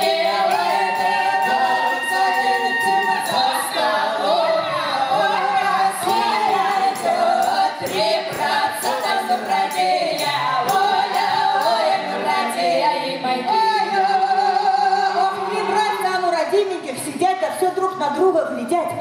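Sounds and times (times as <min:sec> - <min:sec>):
folk choir singing: 0:00.0 - 0:15.5.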